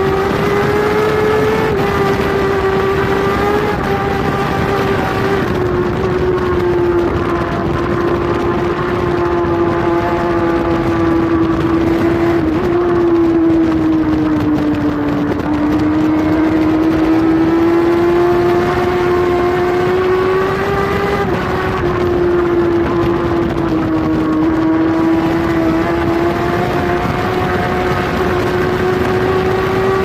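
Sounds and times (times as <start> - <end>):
motorcycle engine at high revs: 0.0 - 30.0.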